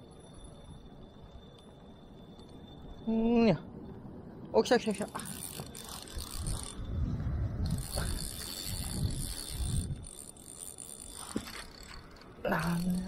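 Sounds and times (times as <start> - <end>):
fishing reel gears whirring: 0.0 - 3.5, 4.1 - 13.0.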